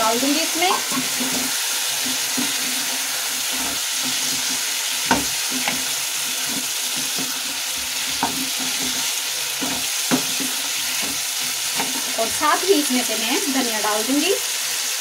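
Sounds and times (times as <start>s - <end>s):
masala sizzling: 0.0s - 15.0s
spatula knocking pan: 0.5s - 12.6s.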